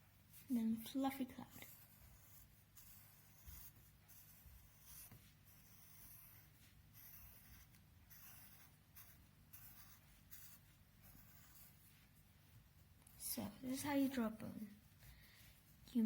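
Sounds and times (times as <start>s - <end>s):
pencil scratching on paper: 0.3s - 16.0s.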